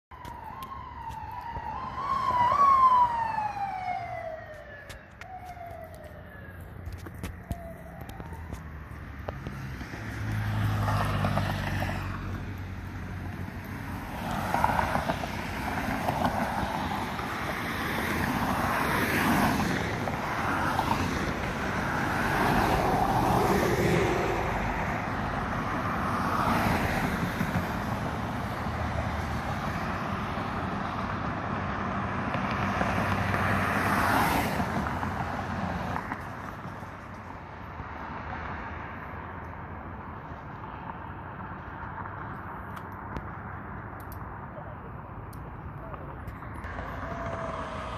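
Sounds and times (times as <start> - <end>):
vehicles passing: 0.1 - 47.9.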